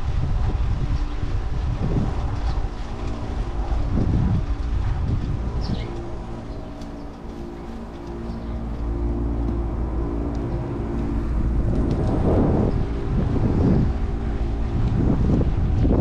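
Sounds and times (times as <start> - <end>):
traffic rumble: 0.0 - 16.0
vehicle engine hum: 0.0 - 16.0
wind buffeting microphone: 0.0 - 16.0.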